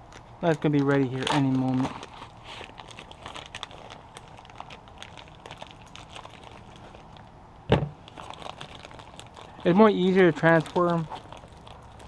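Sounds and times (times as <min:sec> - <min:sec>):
plastic packaging crinkling: 0:00.0 - 0:07.3, 0:08.0 - 0:12.0.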